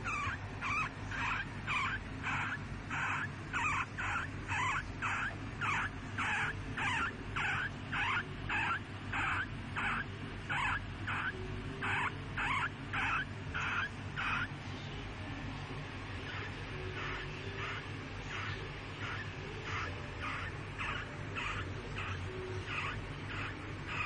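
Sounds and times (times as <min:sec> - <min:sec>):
hamster snoring squeaks: 0:00.0 - 0:24.0.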